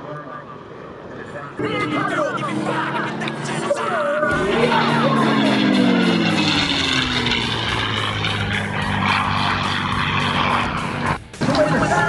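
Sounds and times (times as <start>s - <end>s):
propeller plane engine flying past: 0.0s - 11.5s.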